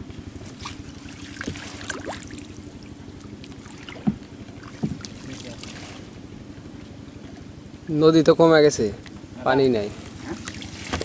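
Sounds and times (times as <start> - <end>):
water splashing and sloshing: 0.0 - 8.0, 8.9 - 11.0
low chugging engine hum: 0.0 - 11.0.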